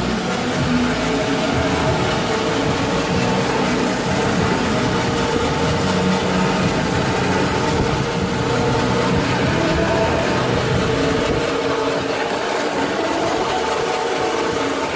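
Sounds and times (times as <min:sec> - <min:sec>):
band saw machine running: 0:00.0 - 0:14.9.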